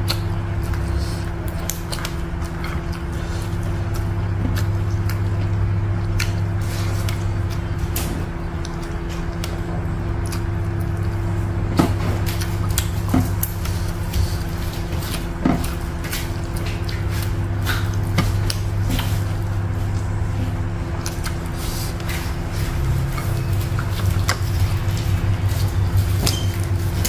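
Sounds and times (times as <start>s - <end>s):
chewing and wet mouth clicks: 0.0s - 20.1s, 21.0s - 27.0s
steady low hum: 0.0s - 27.0s.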